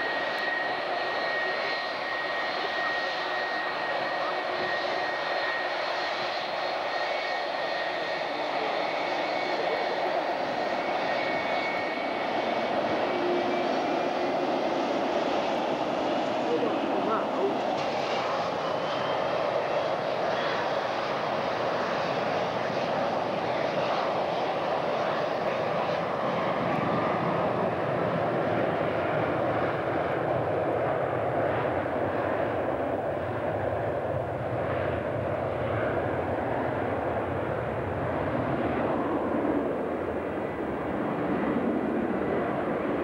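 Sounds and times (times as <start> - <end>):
jet engines at high power: 0.0 - 43.0.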